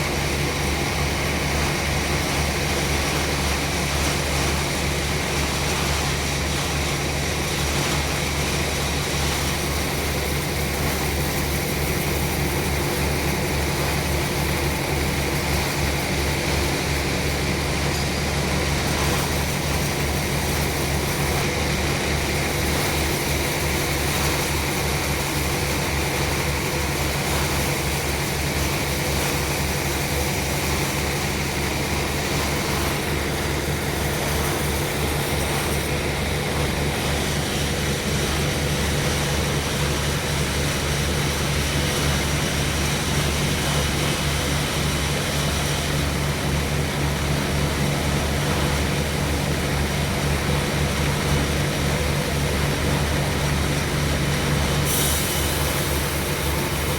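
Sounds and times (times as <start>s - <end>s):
sawmill machinery drone: 0.0s - 56.9s.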